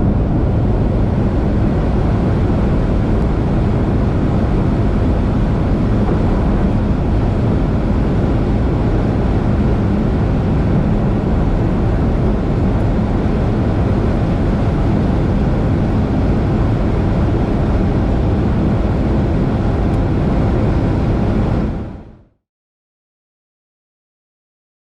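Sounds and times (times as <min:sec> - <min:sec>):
car engine at high speed: 0:00.0 - 0:22.1
wind and road noise: 0:00.0 - 0:22.3.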